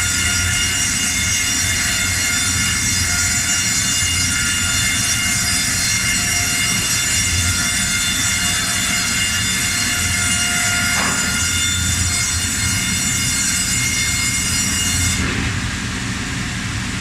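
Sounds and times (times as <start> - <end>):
band saw running: 0.0 - 15.2.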